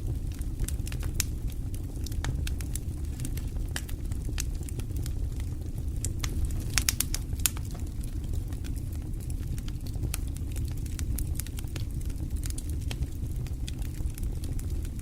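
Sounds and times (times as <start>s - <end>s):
fire low rumble: 0.0s - 15.0s
fire pops and snaps: 0.0s - 15.0s.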